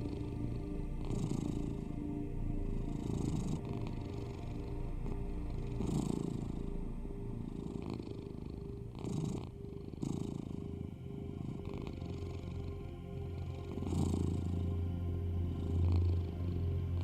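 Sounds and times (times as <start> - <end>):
cat purring: 0.0 - 2.0, 2.6 - 17.0
low binaural tone drone: 0.0 - 17.0.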